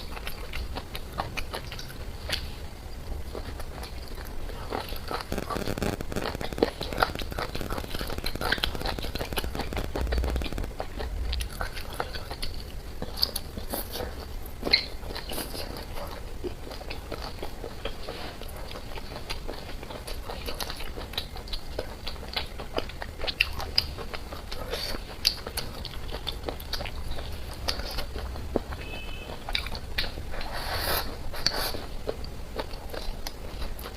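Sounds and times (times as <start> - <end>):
person biting and chewing food: 0.0 - 33.9.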